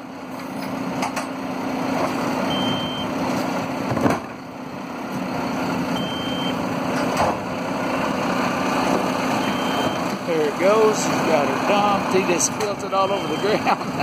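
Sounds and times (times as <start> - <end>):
garbage truck diesel engine: 0.0 - 14.0.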